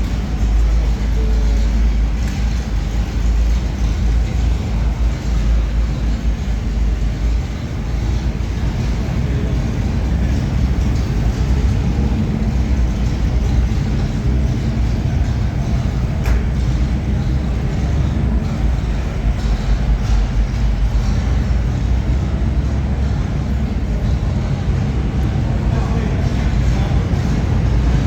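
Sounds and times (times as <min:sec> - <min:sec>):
car engines rumbling: 0:00.0 - 0:28.0.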